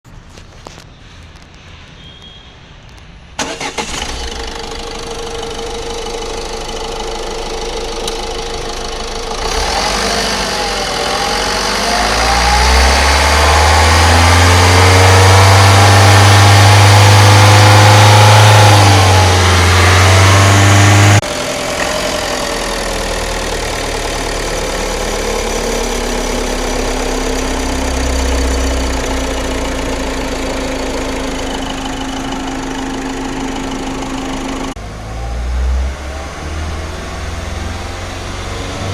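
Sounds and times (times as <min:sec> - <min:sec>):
car engine starting and running: 0:03.4 - 0:38.9
engine whine: 0:03.4 - 0:38.9.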